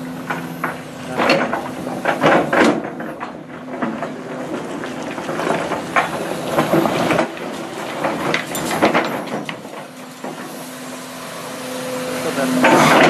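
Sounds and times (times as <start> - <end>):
engine hum: 0.0 - 13.0
excavator bucket digging rock: 0.2 - 10.6, 12.4 - 13.0.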